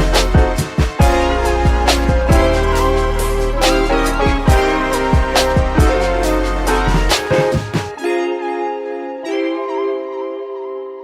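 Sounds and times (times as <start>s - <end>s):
instrumental beat with chords: 0.0s - 11.0s.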